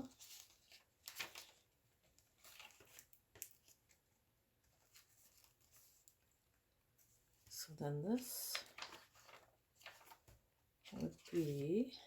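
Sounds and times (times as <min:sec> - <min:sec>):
paper pages rustling: 0:00.0 - 0:06.4, 0:08.2 - 0:12.0.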